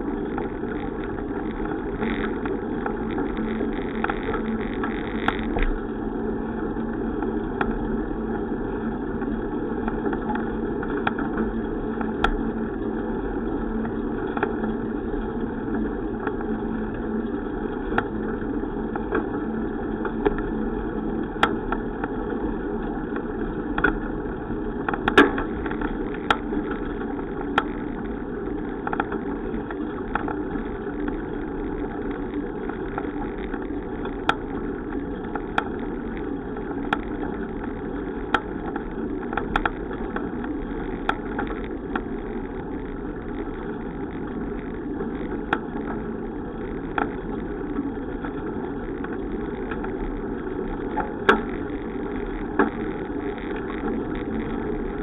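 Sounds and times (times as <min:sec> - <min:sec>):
bicycle tyre and wind noise: 0:00.0 - 0:55.0
sharp clicks and rattles: 0:00.0 - 0:55.0.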